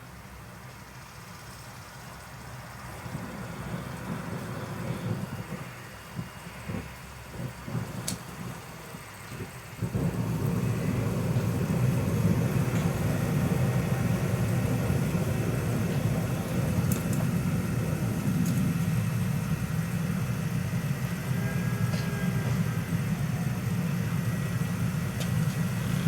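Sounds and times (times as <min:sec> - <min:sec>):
diesel burner rushing: 0:01.2 - 0:26.0.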